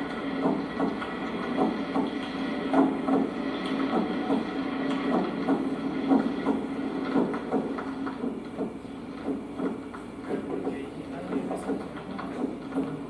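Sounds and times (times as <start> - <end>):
heartbeats: 0.0 - 13.0.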